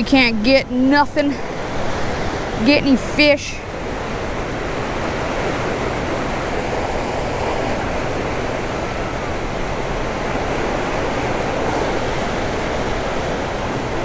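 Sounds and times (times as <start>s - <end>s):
rushing churning water: 0.6s - 14.0s.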